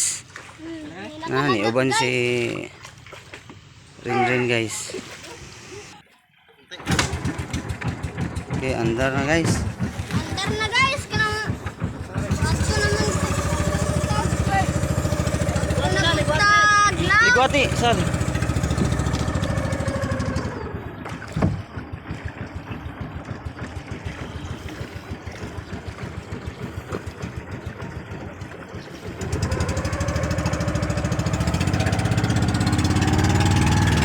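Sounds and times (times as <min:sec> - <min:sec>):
boat engine chugging: 0:00.0 - 0:06.0, 0:06.8 - 0:34.0.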